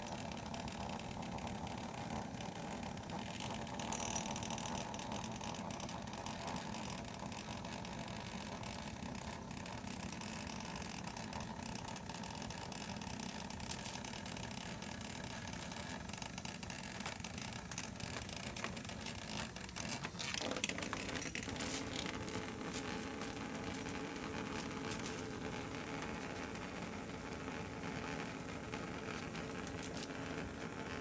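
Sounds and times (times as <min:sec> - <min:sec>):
toothbrush buzzing on wooden floor: 0:00.0 - 0:31.0.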